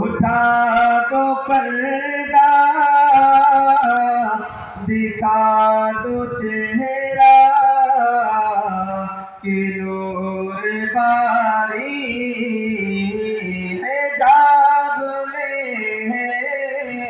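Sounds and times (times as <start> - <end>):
man singing through pa system: 0.0 - 17.0.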